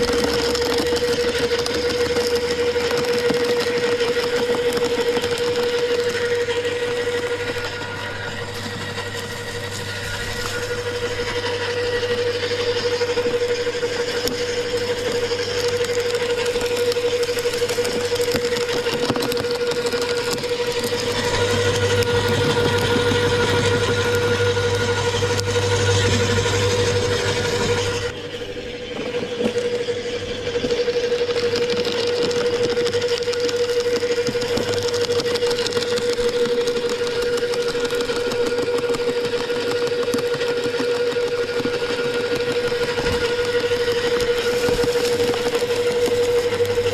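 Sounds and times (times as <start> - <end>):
branches being shredded: 0.0 - 28.6, 29.4 - 46.9
wood chipper whine: 0.0 - 46.9.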